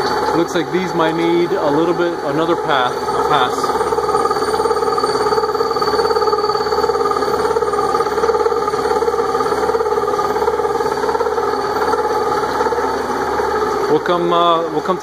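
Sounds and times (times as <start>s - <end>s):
gear cutting machine whirring: 0.0s - 15.0s.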